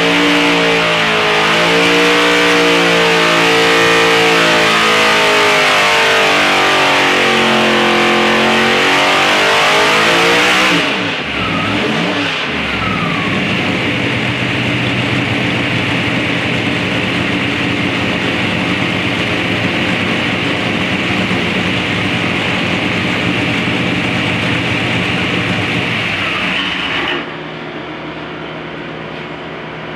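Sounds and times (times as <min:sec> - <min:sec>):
racing engine revving: 0:00.0 - 0:27.3.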